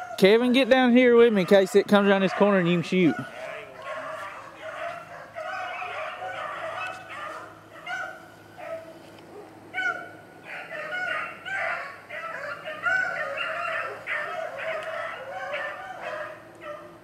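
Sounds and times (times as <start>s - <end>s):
dogs baying and yelping: 0.0s - 17.0s.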